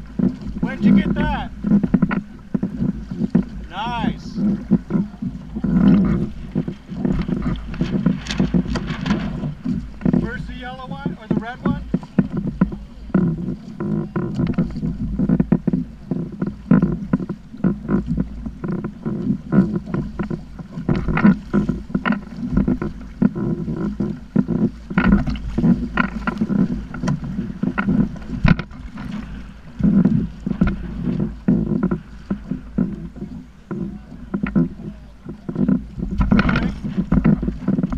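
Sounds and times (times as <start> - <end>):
water slapping against kayak hull: 0.0 - 37.9
wind rumble on microphone: 0.0 - 37.9.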